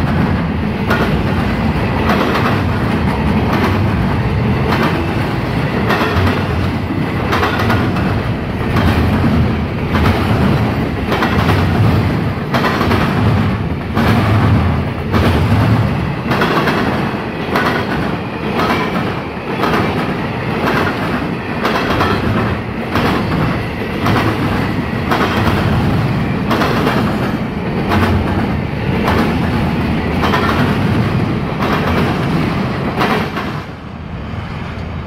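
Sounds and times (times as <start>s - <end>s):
wheels clacking over rails: 0.0s - 33.7s
freight train rumbling: 0.0s - 35.0s.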